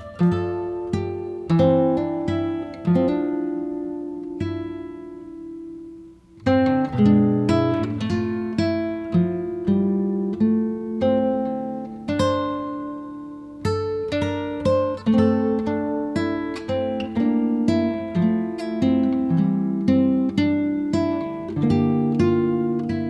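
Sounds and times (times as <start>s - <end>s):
plucked acoustic guitar: 0.0s - 23.0s.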